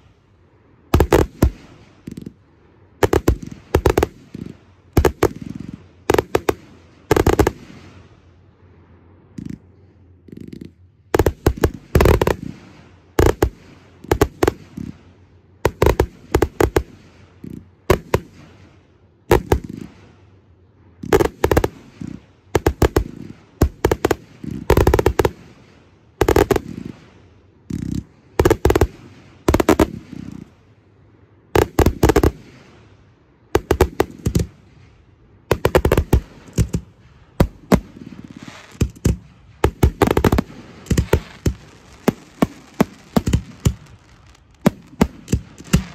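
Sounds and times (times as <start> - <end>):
firework shells bursting: 0.9 - 2.4, 3.0 - 7.8, 10.3 - 18.7, 19.3 - 20.1, 21.0 - 30.6, 31.6 - 32.7, 33.6 - 45.9
fireworks crackling: 0.9 - 8.2, 9.4 - 9.7, 10.3 - 20.3, 21.0 - 30.7, 31.6 - 33.0, 33.6 - 45.9.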